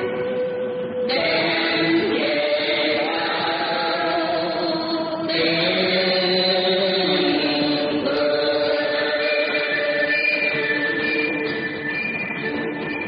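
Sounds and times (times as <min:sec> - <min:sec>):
opera music with long held notes: 0:00.0 - 0:13.0.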